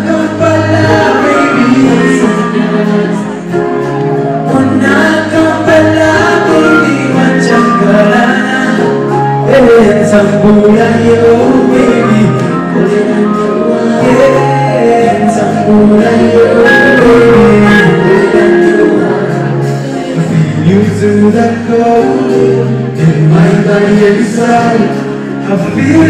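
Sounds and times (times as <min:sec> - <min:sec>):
bass guitar: 0:00.0 - 0:26.0
keyboards: 0:00.0 - 0:26.0
live band playing: 0:00.0 - 0:26.0
man singing lead: 0:00.0 - 0:26.0.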